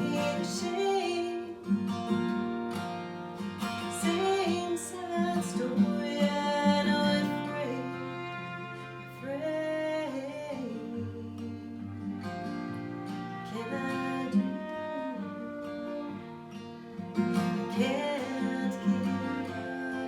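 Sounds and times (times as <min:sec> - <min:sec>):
person singing: 0:00.0 - 0:02.0, 0:03.9 - 0:16.4, 0:17.4 - 0:20.0
acoustic guitar playing: 0:00.0 - 0:20.0.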